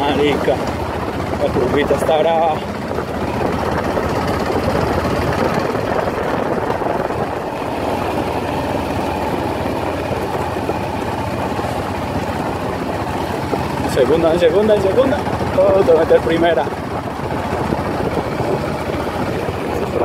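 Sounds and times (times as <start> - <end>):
motorcycle engine running: 0.0 - 20.0
wind rushing: 2.8 - 14.1, 14.9 - 20.0.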